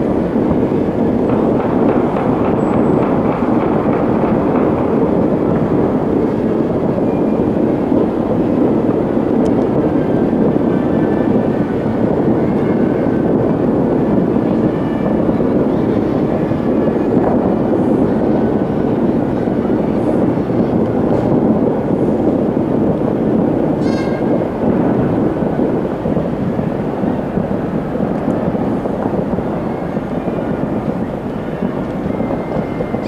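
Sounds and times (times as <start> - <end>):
distant fireworks barrage: 0.0 - 33.0.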